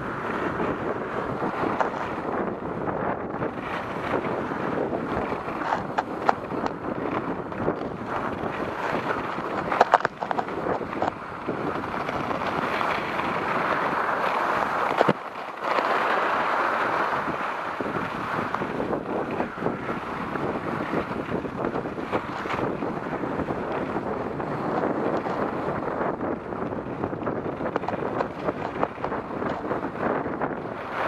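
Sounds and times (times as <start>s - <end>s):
skis scraping on snow: 0.0s - 31.0s
wind on microphone: 0.0s - 31.0s.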